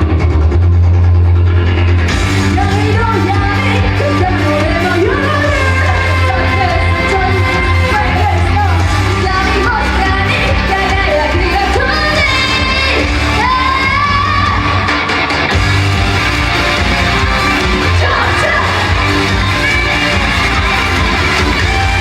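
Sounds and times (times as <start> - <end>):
heavy bass beat: 0.0 - 22.0
pop song over loudspeakers: 0.0 - 22.0
audience shouting and yelling: 1.6 - 22.0.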